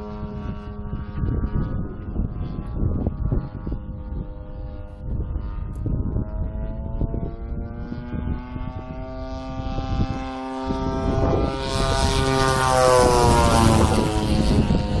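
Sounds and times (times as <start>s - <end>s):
model plane engine droning overhead: 0.0s - 15.0s.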